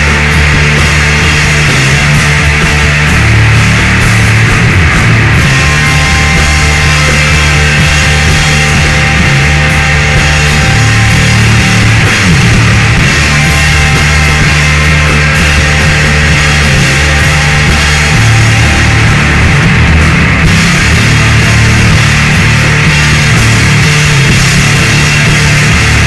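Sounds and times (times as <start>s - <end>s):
sludge metal band playing: 0.0s - 26.0s.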